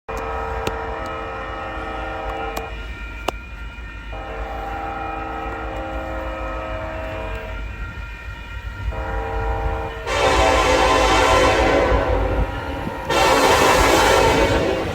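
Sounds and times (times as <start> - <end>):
locomotive air horn blasts: 0.1 - 2.8, 4.1 - 7.6, 8.9 - 14.9
train rumble: 0.1 - 14.9.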